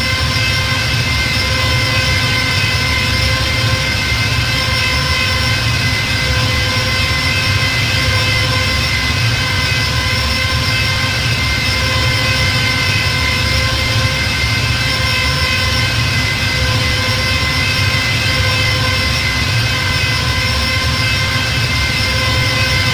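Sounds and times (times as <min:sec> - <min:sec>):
spacecraft engine drone: 0:00.0 - 0:22.9.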